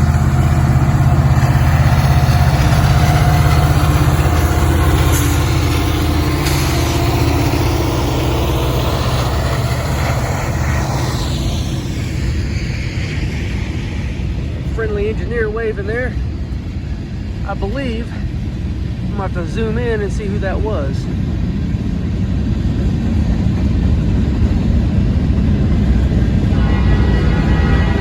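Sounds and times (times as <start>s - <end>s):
locomotive engines droning: 0.0s - 28.0s.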